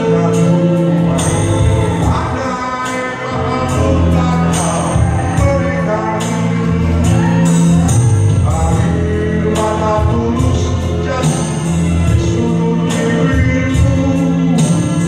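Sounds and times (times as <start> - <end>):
song with male vocals and beat: 0.0 - 15.0.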